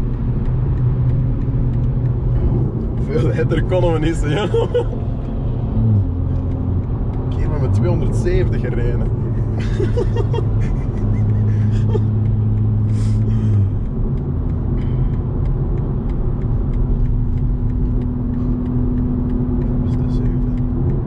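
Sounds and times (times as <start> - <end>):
car engine droning: 0.0 - 21.0
road and wind noise: 0.0 - 21.0.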